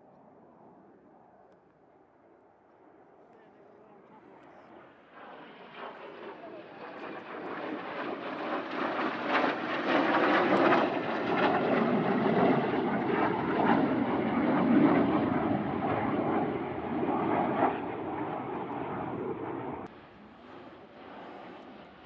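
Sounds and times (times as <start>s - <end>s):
airplane engine flying past: 0.0s - 22.0s.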